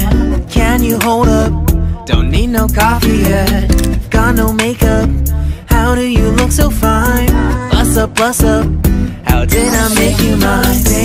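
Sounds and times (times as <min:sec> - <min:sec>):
upbeat pop music: 0:00.0 - 0:11.0.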